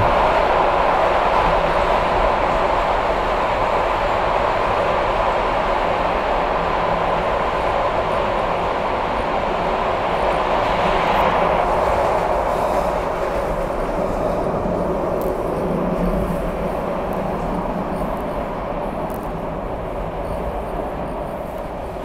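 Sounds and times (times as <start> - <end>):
subway train rail noise: 0.0 - 22.0.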